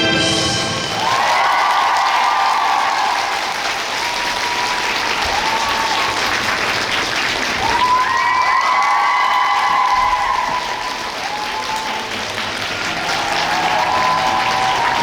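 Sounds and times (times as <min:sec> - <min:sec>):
crowd cheering: 0:00.0 - 0:15.0
audience applauding: 0:00.4 - 0:15.0.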